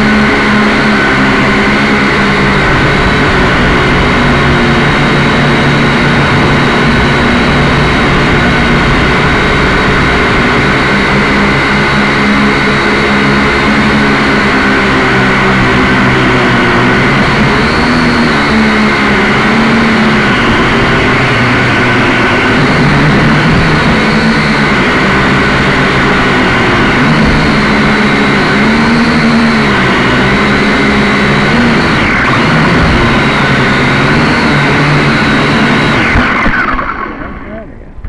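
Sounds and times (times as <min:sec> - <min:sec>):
quadcopter motors whining: 0:00.0 - 0:38.0.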